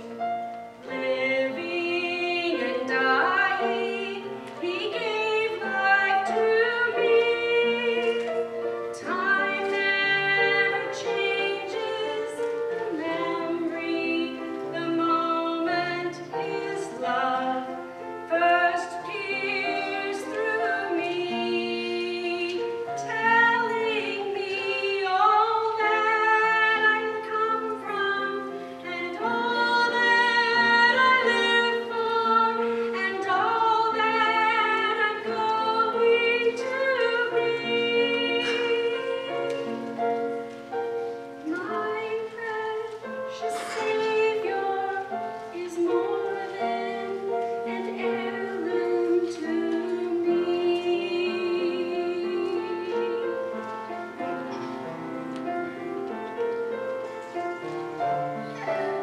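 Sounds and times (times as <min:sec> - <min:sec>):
instrumental accompaniment: 0:00.0 - 0:59.0
woman singing into a microphone: 0:00.9 - 0:40.0, 0:41.3 - 0:53.6.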